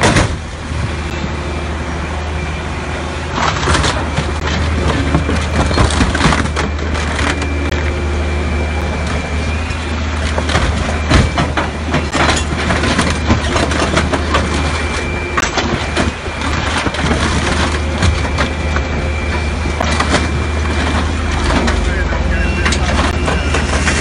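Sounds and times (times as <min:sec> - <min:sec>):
car bodywork crunching: 0:00.0 - 0:01.1, 0:03.3 - 0:24.0.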